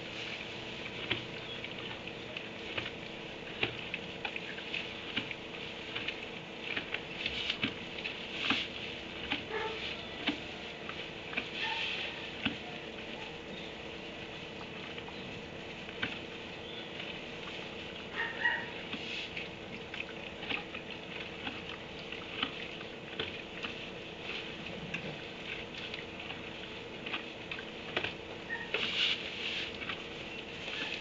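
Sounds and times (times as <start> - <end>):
straw rustling and crackling: 0.0 - 31.0.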